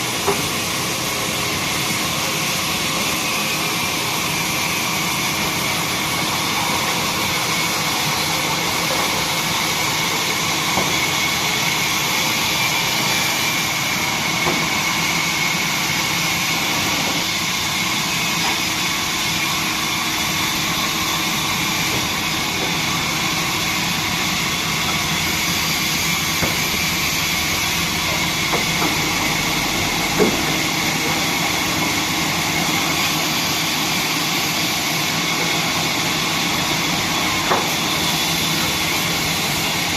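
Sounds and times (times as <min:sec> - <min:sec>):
band saw running with whine: 0:00.0 - 0:39.9.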